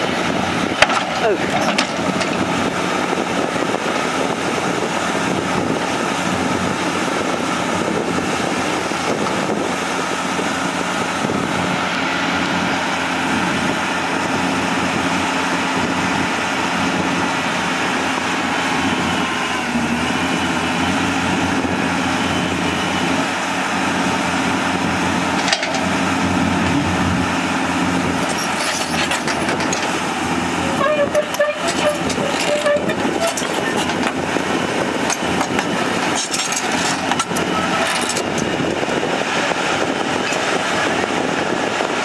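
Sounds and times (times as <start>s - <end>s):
excavator diesel engine: 0.0s - 42.0s.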